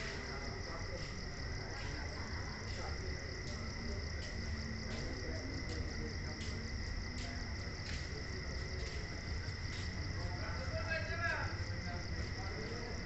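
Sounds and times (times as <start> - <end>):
crickets chirring: 0.0 - 13.0
faint background voices: 0.0 - 13.0.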